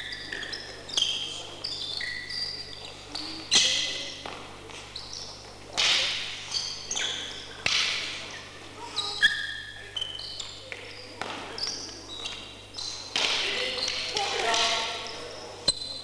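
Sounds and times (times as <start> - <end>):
sports shoes squeaking on gym floor: 0.0 - 16.0.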